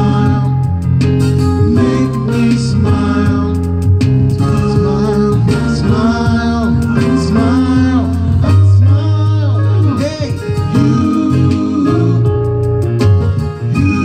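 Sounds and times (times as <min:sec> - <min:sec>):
person singing slow melody: 0:00.0 - 0:00.9, 0:01.5 - 0:12.7, 0:13.6 - 0:14.0
instrumental accompaniment with bass: 0:00.0 - 0:14.0.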